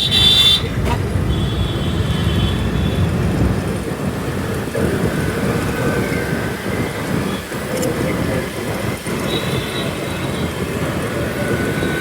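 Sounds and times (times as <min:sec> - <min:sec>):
road and traffic noise: 0:00.0 - 0:12.0
wind buffeting microphone: 0:00.0 - 0:12.0.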